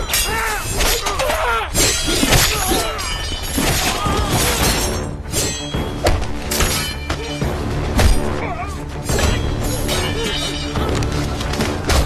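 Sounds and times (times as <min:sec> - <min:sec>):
swords clashing: 0:00.0 - 0:07.4, 0:08.0 - 0:10.9
dramatic orchestral film music: 0:00.0 - 0:12.0.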